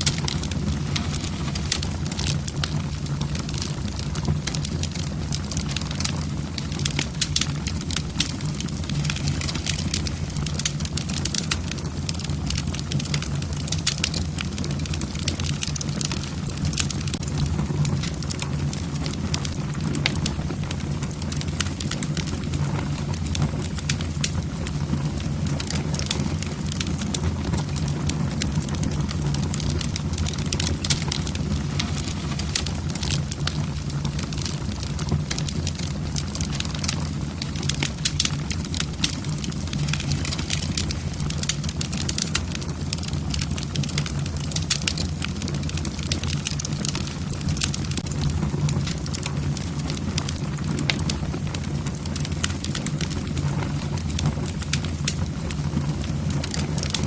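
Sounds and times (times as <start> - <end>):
logs crackling in fire: 0.0 - 57.0
low rush of flame: 0.0 - 57.0
sharp pops of fire: 0.0 - 57.0.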